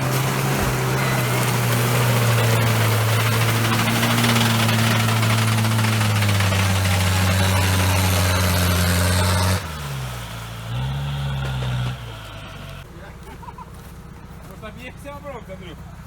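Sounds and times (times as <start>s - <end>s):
vehicle engine at high revs: 0.0s - 16.0s.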